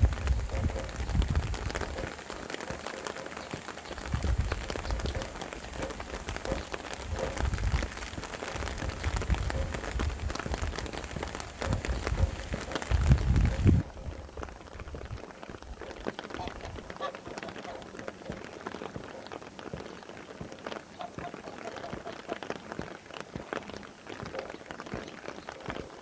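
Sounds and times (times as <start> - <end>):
rain pattering: 0.0 - 26.0
wind rumbling on microphone: 0.0 - 26.0.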